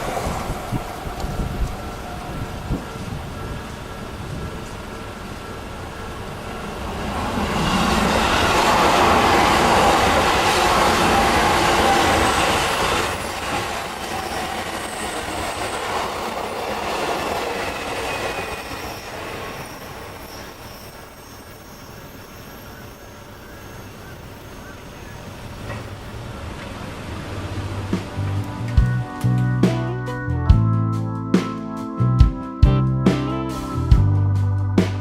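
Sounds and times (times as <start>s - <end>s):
electric train passing: 0.0s - 30.4s.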